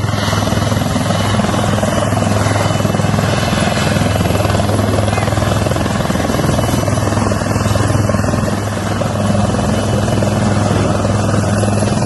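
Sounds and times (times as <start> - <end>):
helicopter rotor chop: 0.0 - 12.0.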